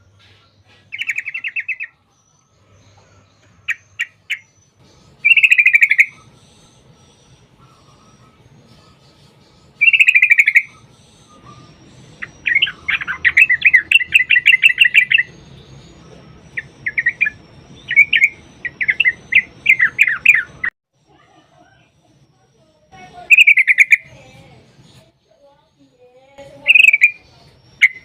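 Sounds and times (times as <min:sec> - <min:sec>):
bulbul singing chattering phrases: 0:00.1 - 0:28.0.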